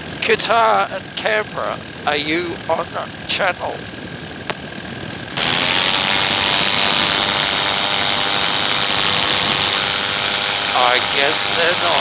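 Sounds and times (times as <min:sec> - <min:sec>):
paramotor engine and propeller: 0:00.0 - 0:12.0.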